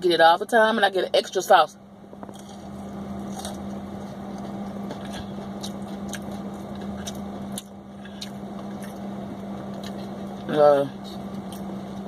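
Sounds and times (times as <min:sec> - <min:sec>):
low car hum: 0:00.0 - 0:12.0
chewing crispy food: 0:02.1 - 0:12.0.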